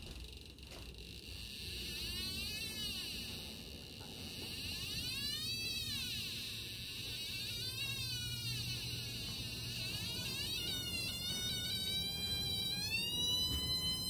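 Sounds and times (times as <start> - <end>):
steady electronic buzz: 0.0 - 14.0.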